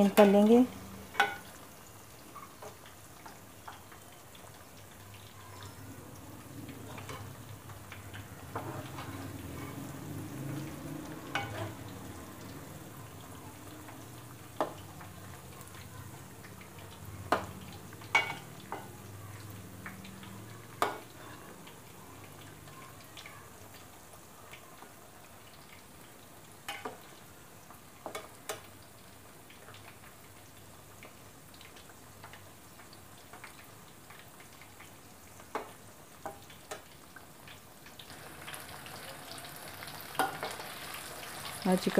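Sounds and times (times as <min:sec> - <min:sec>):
deep-frying oil sizzle: 0:00.0 - 0:41.9.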